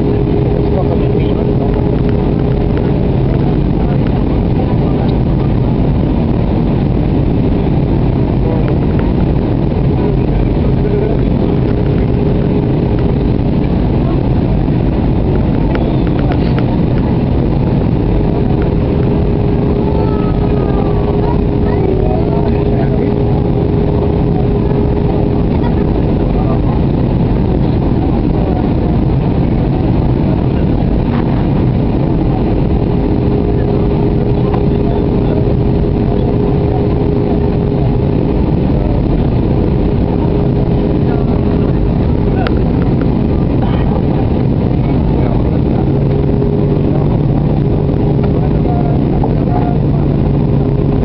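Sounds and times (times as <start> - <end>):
jet engines and rushing air: 0.0 - 51.0
steady cabin hum: 0.0 - 51.0.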